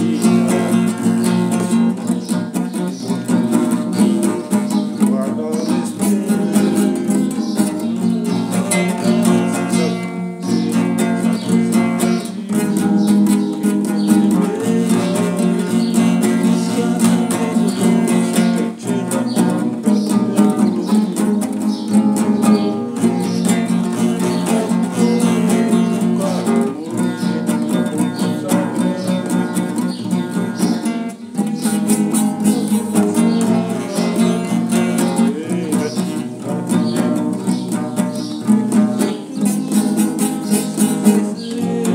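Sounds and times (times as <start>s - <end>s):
acoustic guitar strumming: 0.0s - 41.9s
man singing: 0.0s - 41.9s.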